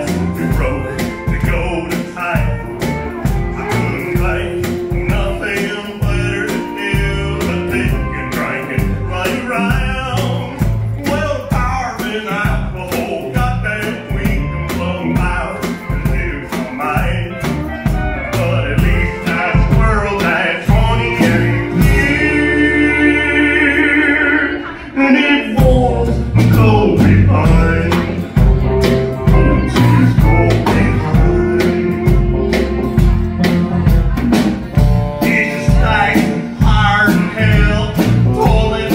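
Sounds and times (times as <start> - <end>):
steel guitar: 0.0 - 25.0, 25.6 - 38.9
country band playing: 0.0 - 38.9
drum kit: 0.0 - 38.9.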